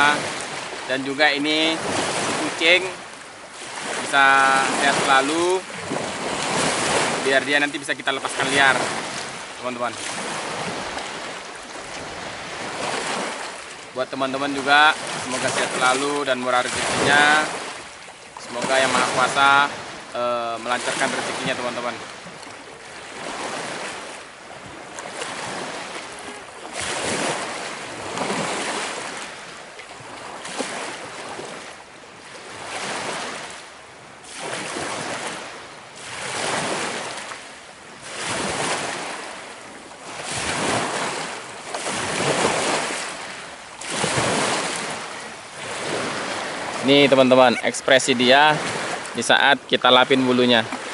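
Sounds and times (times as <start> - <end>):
waves washing on rocky shore: 0.0 - 50.9.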